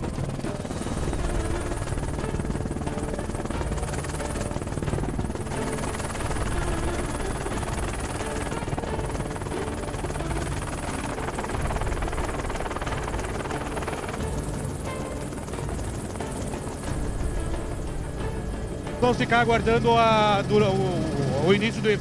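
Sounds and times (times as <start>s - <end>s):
helicopter rotor pulsing: 0.0s - 22.0s.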